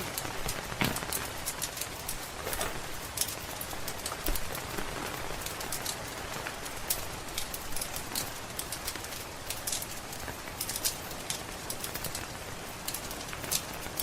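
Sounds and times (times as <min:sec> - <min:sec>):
rain hiss: 0:00.0 - 0:14.0
wood fire crackling and popping: 0:00.0 - 0:14.0.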